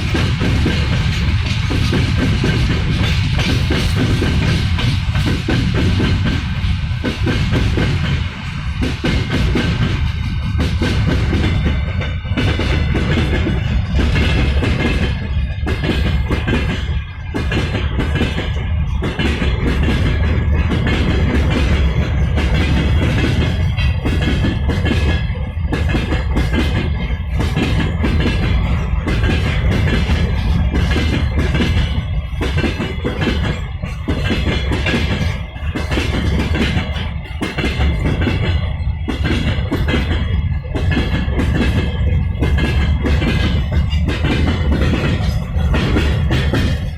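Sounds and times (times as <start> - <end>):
freight train wagons rolling past: 0.0 - 46.9.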